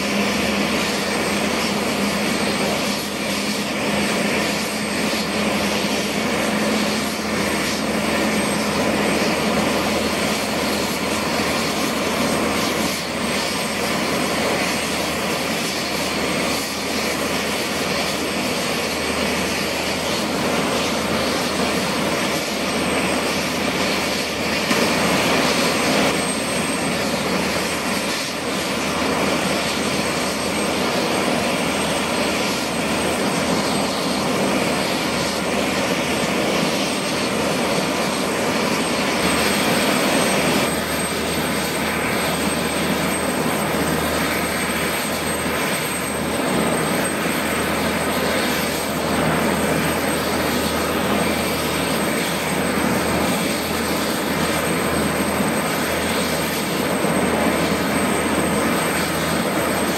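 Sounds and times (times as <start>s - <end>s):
helicopter engine and rotor noise: 0.0s - 59.9s
high-pitched turbine whine: 0.0s - 59.9s.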